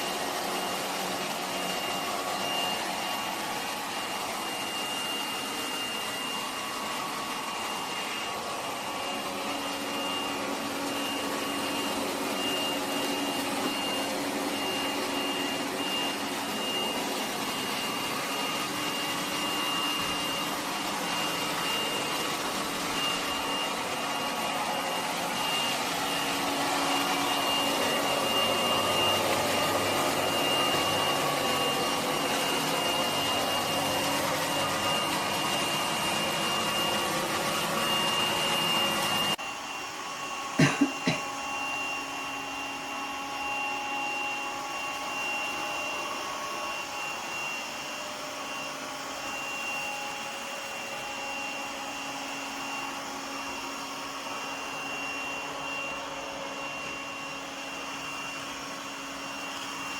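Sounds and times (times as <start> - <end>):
robot vacuum running with whine: 0.0 - 59.9.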